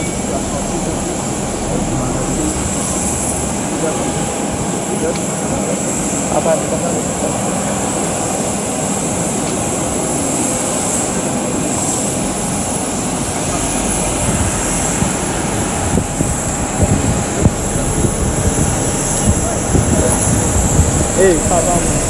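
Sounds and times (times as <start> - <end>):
aircraft turbine roaring: 0.0 - 22.0
high-pitched whine: 0.0 - 22.0
wind buffeting microphone: 0.0 - 22.0.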